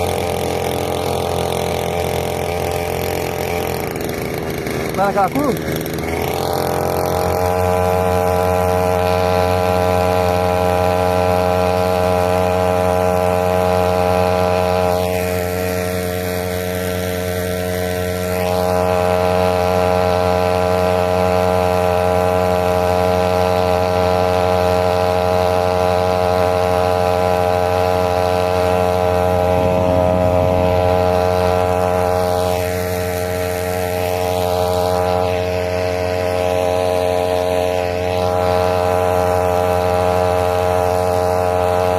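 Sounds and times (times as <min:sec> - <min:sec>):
small boat engine running: 0:00.0 - 0:41.9.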